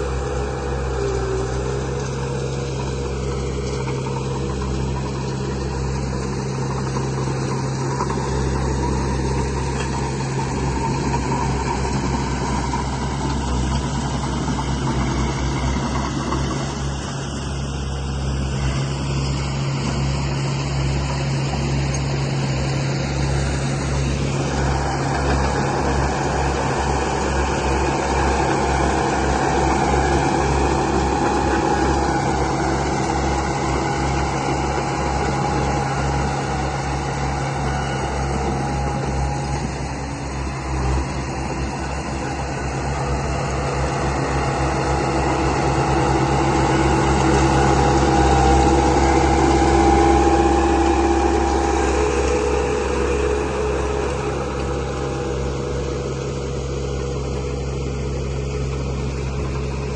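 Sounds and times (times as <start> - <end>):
construction machinery engine running: 0.0 - 59.9.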